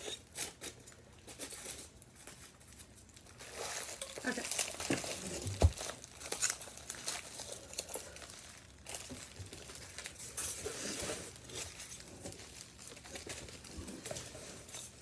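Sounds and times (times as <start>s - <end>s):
packing peanuts crinkling and rustling: 0.0s - 15.0s.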